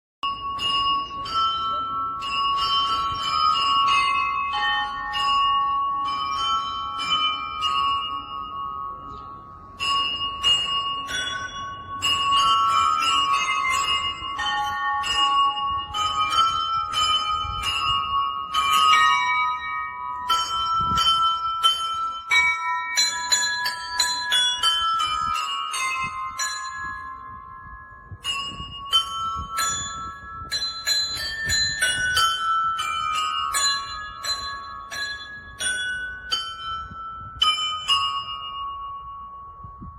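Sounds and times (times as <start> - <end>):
church bells ringing a peal: 0.2 - 39.6.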